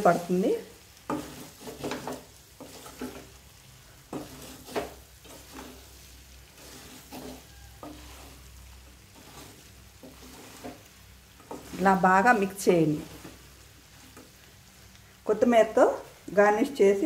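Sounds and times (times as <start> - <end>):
metal spoon scraping a pan: 0.0 - 14.4
chicken sizzling in oil: 0.0 - 17.0.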